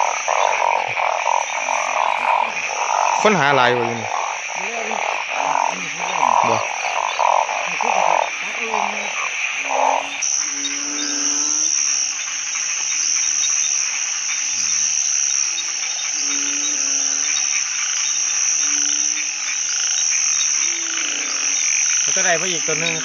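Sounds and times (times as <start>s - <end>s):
frogs calling: 0.0s - 23.0s
high-pitched insect drone: 0.0s - 23.0s.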